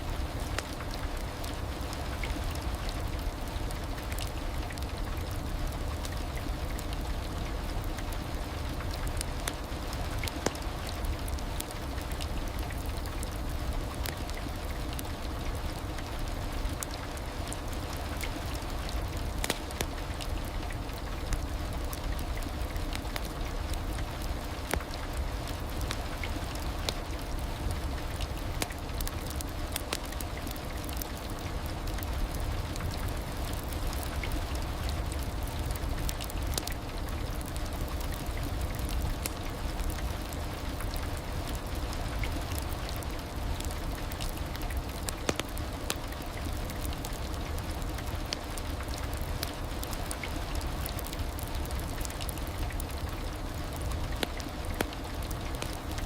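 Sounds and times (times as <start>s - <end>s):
heavy rain: 0.0s - 56.0s
rain drop ticks: 0.2s - 56.0s.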